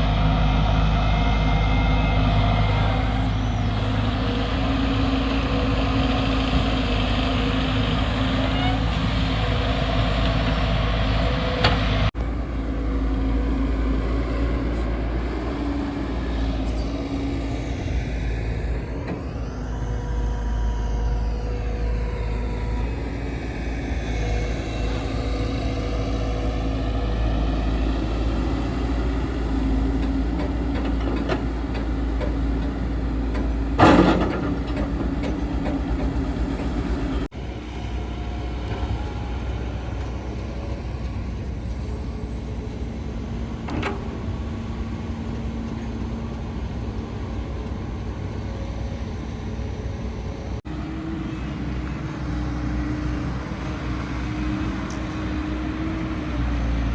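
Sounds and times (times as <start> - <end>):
diesel excavator engine running: 0.0 - 56.9.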